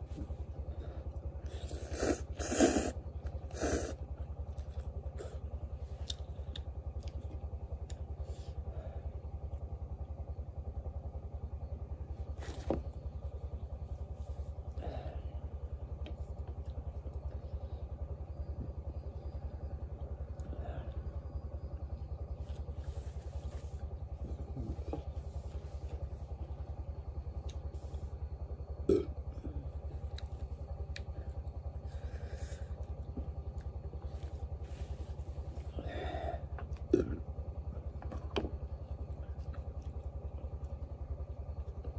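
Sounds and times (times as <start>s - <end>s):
small engine low throb: 0.0s - 41.9s.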